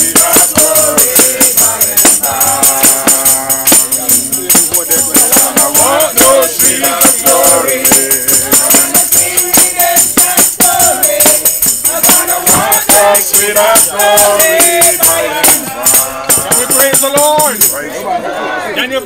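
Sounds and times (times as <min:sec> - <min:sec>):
tambourine jingling: 0:00.0 - 0:18.0
group singing: 0:00.0 - 0:18.9.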